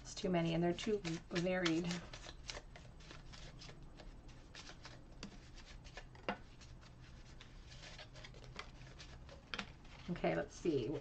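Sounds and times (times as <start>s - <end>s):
paper cards rustling: 0.8s - 11.0s.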